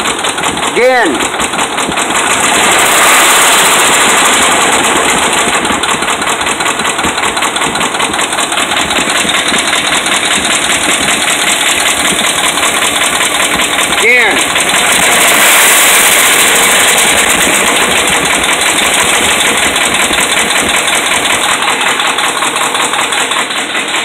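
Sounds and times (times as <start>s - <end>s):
engine running with rapid knocking: 0.0s - 24.0s.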